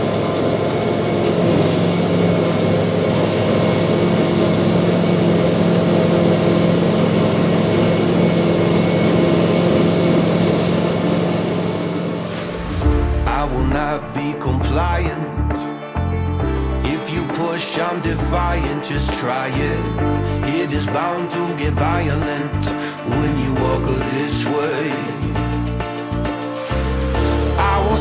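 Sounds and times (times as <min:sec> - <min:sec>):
diesel machinery engine droning: 0:00.0 - 0:15.5, 0:18.1 - 0:28.0.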